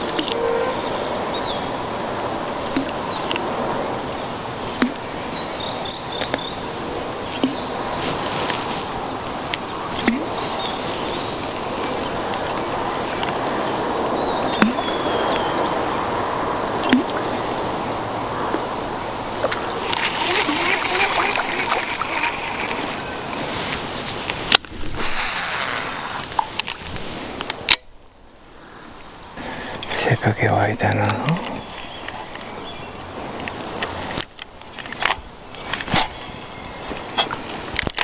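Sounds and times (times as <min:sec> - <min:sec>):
steady noisy hiss: 0:00.0 - 0:38.0.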